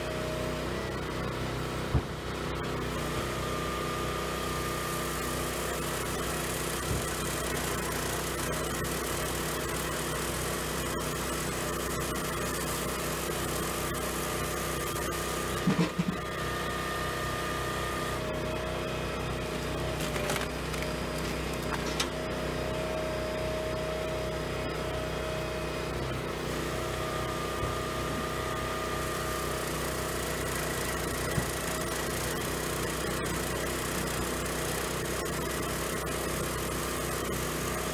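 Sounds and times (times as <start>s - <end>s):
engine running: 0.0s - 37.9s.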